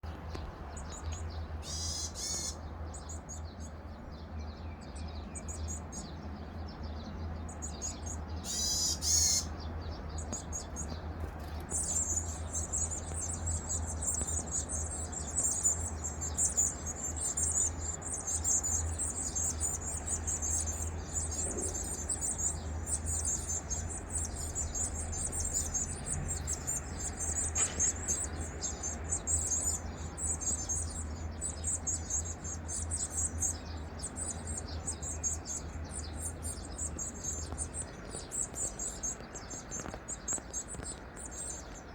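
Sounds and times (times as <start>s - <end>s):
loud bird calls: 0.0s - 41.9s
bird chicks begging chatter: 0.2s - 41.9s.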